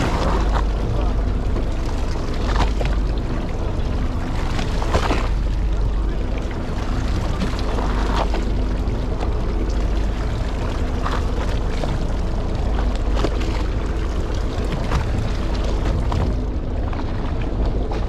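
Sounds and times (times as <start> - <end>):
boat engine running: 0.0 - 18.0
water washing along hull: 0.0 - 18.0.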